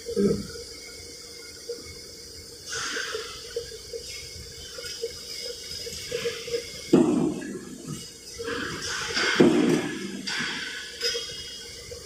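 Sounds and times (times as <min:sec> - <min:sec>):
metal shop machinery hissing: 0:00.0 - 0:12.0.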